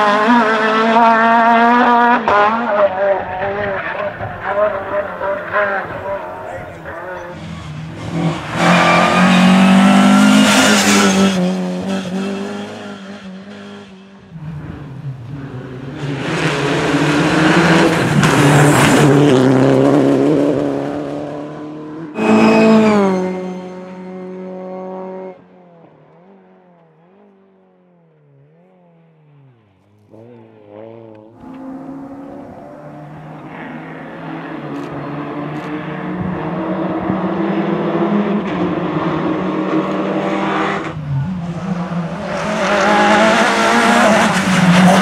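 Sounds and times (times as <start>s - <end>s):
distant rally car engine: 0.0s - 45.0s
rally cars passing at full throttle: 0.0s - 45.0s.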